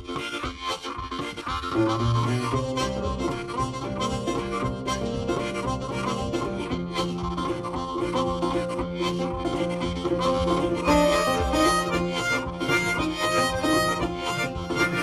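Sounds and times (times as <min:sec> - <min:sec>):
harmonica held notes: 0:00.0 - 0:15.0
plucked strings: 0:00.0 - 0:15.0
steady beat: 0:00.0 - 0:15.0.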